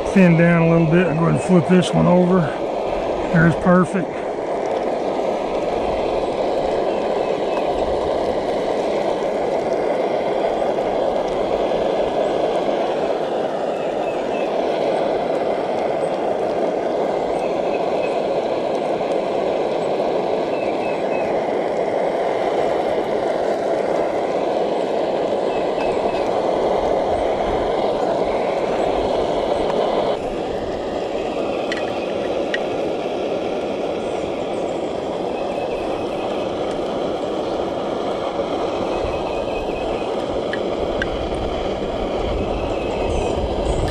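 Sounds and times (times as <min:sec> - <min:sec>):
camp stove burner running: 0:00.0 - 0:43.9
mushrooms frying in butter: 0:00.0 - 0:43.9.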